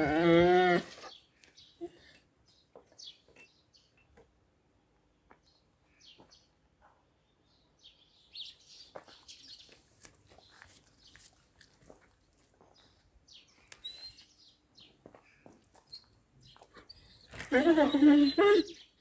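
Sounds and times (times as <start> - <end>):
small birds chirping: 0.9 - 4.3, 5.1 - 19.0.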